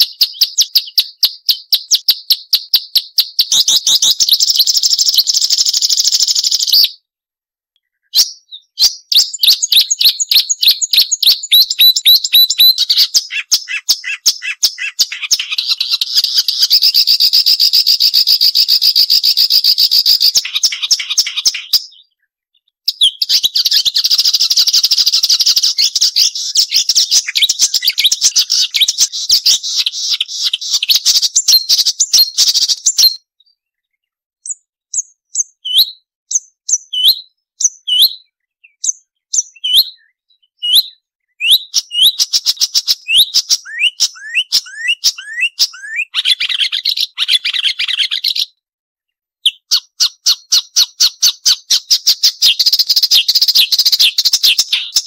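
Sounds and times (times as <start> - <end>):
warbler singing trills and chatter: 0.0 - 7.0, 7.9 - 48.6, 49.4 - 55.0.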